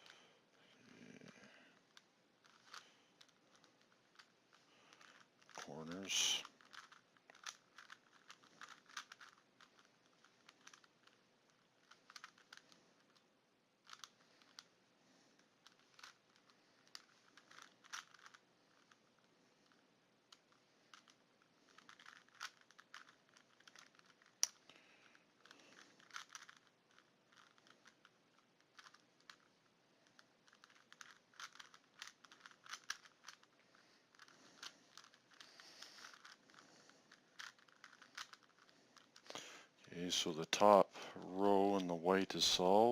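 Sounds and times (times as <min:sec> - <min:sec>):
puzzle cube plastic clicks: 0:01.2 - 0:14.8, 0:15.4 - 0:42.9.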